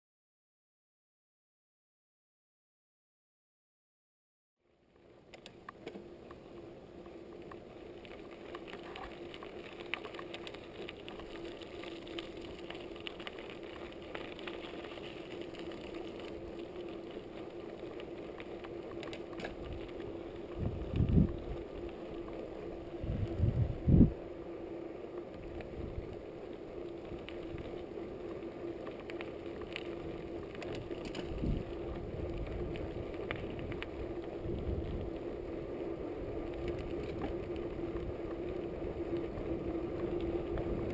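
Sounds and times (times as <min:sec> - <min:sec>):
bike tyre hum: 0:04.7 - 0:40.9.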